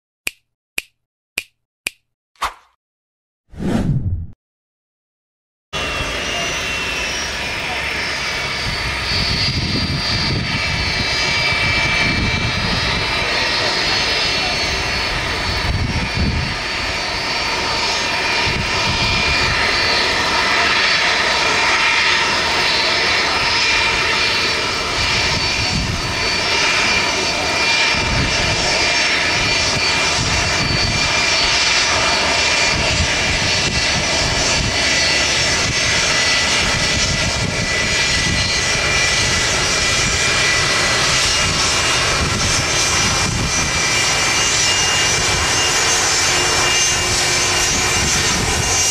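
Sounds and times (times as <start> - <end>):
jet engines whining: 5.8 - 48.9.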